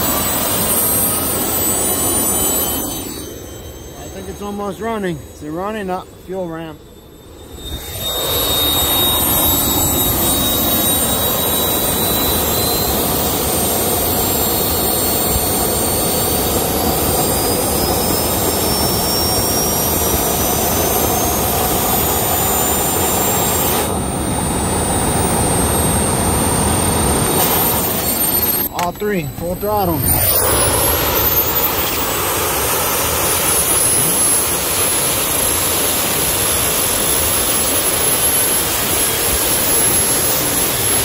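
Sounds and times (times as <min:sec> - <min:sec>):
high turbine whine: 0:00.0 - 0:41.0
jet engines roaring: 0:00.0 - 0:41.0.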